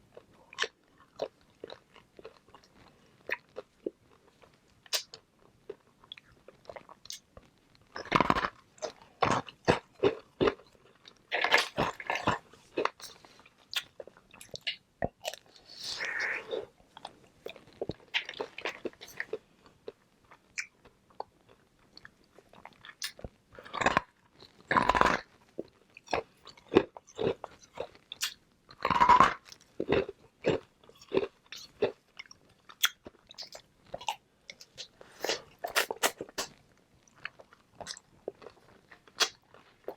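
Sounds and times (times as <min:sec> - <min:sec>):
ice balls crunching while chewed: 0:00.1 - 0:16.4, 0:17.0 - 0:39.9.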